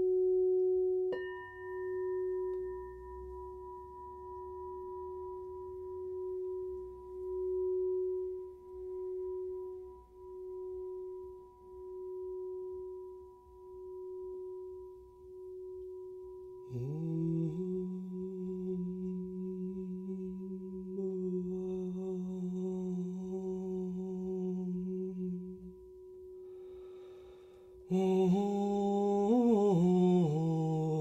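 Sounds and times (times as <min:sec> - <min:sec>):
singing bowl ringing: 0:00.0 - 0:31.0.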